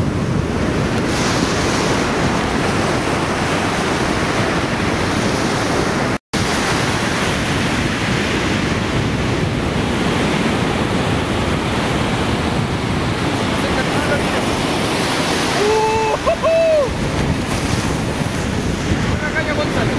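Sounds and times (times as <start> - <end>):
waves breaking on beach: 0.0 - 19.9
wind buffeting microphone: 0.0 - 19.9.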